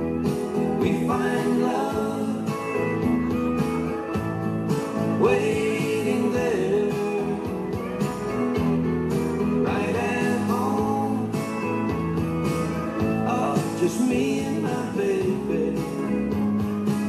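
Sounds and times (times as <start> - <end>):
country song over sound system: 0.0 - 17.0.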